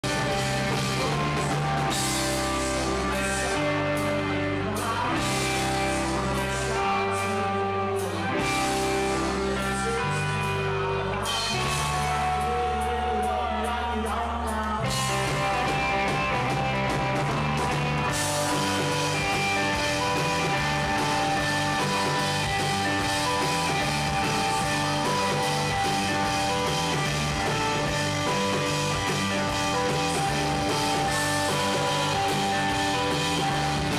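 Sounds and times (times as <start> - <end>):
bass guitar: 0.0 - 33.9
drums: 0.0 - 33.9
electric guitar: 0.0 - 33.9
person singing: 0.0 - 33.9.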